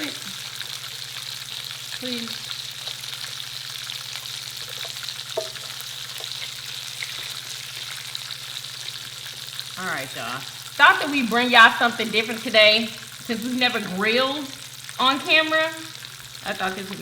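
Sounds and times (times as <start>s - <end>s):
food sizzling on grill: 0.0s - 17.0s.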